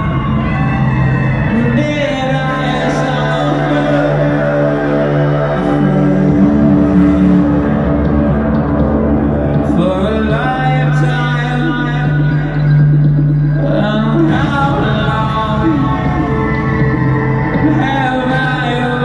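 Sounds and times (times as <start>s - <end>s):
electronic rock band playing live: 0.0s - 19.0s
steady bass line: 0.0s - 19.0s.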